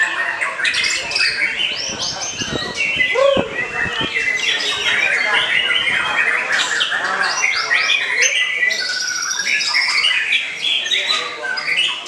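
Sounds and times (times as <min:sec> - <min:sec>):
birds singing whistled trills: 0:00.0 - 0:12.0.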